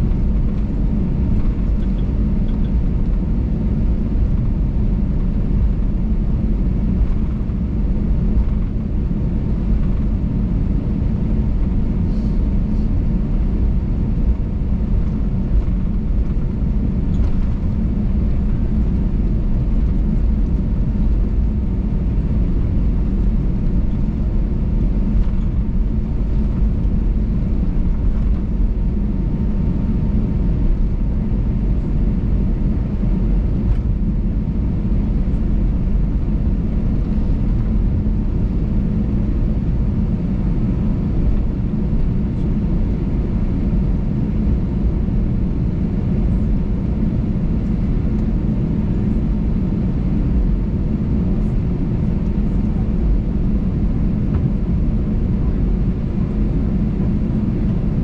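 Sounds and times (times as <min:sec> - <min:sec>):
aircraft engine rumble: 0:00.0 - 0:58.0.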